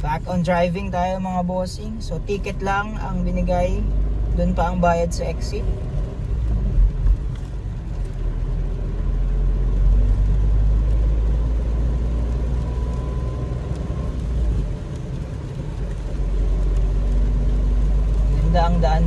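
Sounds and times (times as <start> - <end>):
car engine rumble from inside: 0.0 - 19.0.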